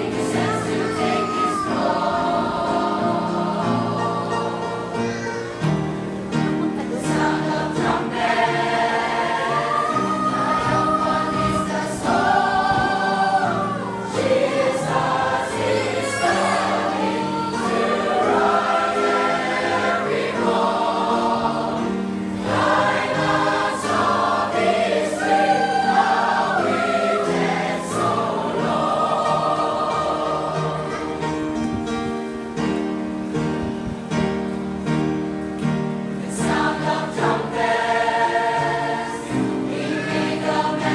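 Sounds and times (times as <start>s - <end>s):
choir singing a sacred piece: 0.0s - 40.9s.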